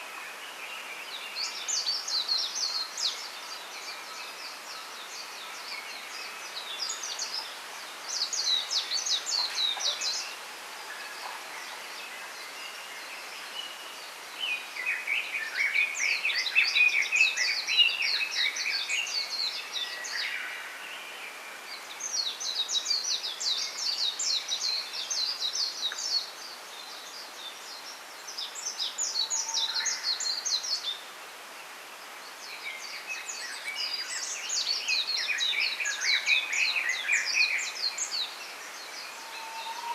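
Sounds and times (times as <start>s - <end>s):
faint outdoor ambience hiss: 0.0s - 39.9s
songbirds twittering: 0.0s - 39.9s.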